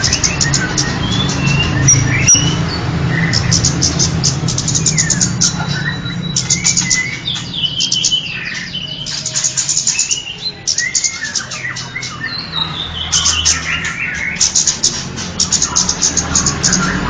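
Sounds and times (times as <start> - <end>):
bird whistling: 0.0 - 17.0
songbird chattering: 0.0 - 17.0.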